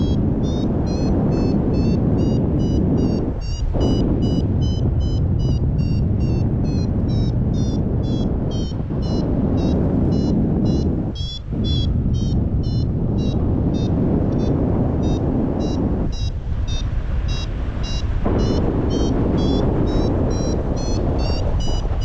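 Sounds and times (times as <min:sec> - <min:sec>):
variometer beeping: 0:00.0 - 0:22.0
wind rushing on microphone: 0:00.0 - 0:22.0.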